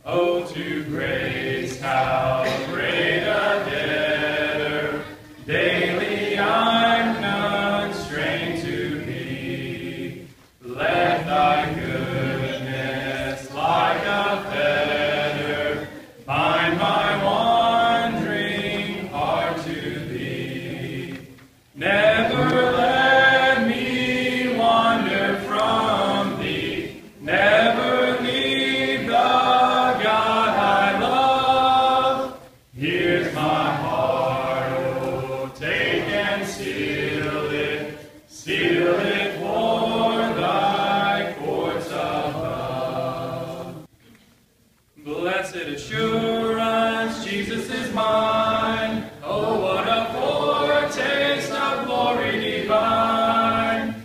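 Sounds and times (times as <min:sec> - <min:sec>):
congregation singing a hymn: 0:00.0 - 0:43.9, 0:45.0 - 0:54.0.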